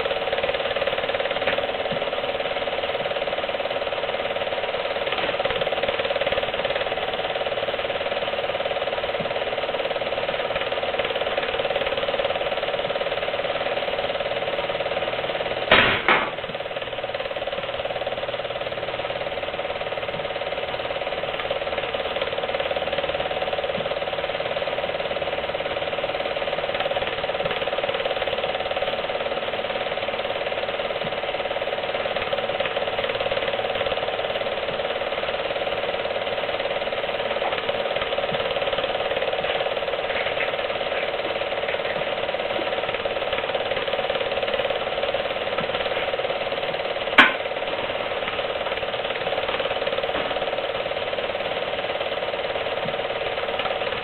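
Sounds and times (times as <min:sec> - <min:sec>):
film projector clattering: 0:00.0 - 0:54.0.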